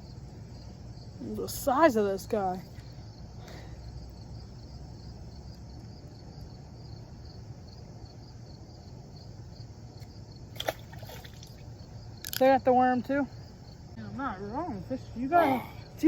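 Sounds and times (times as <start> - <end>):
insects chirping in a high trill: 0.0 - 16.0.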